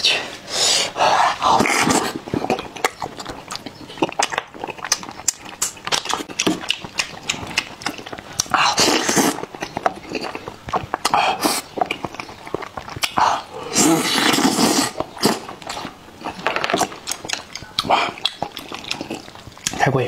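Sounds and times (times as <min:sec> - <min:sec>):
wet sucking: 0:00.0 - 0:19.9
wet chewing with clicks: 0:01.5 - 0:20.0.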